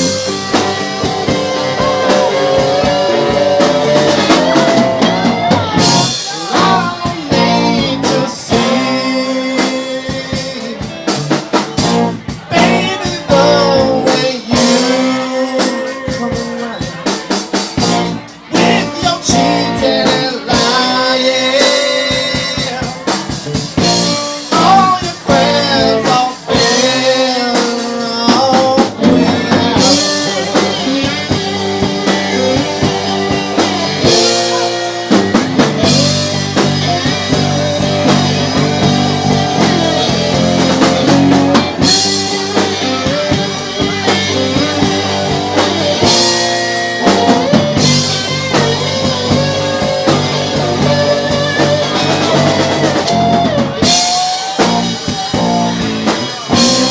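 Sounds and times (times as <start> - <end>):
blues guitar melody: 0.0 - 56.9
steady drum beat: 0.0 - 56.9.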